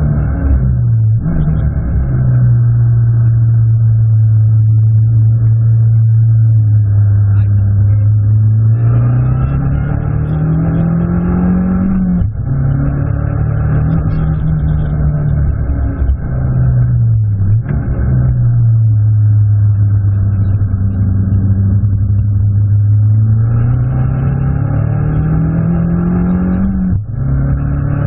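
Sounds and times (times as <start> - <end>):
race car engine accelerating: 0.0 - 4.0, 6.8 - 28.0.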